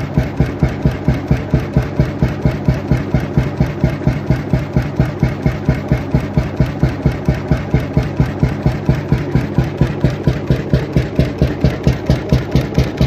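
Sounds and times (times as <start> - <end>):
oil engine running: 0.0 - 13.0.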